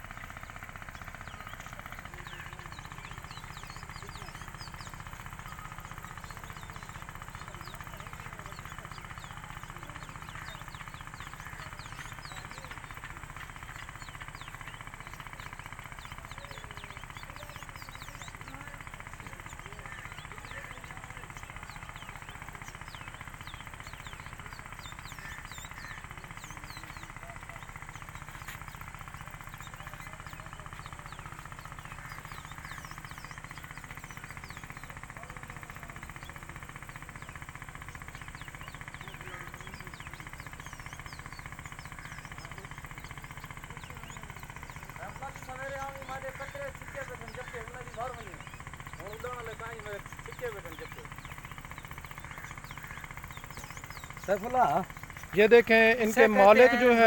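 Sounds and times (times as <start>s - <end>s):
birds chirping: 0.0s - 57.0s
motor chugging steadily: 0.0s - 57.0s
small engine running: 0.0s - 57.0s.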